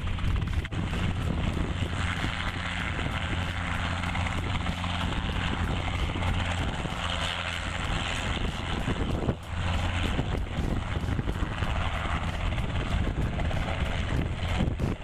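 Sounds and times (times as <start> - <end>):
helicopter hovering: 0.0 - 15.0.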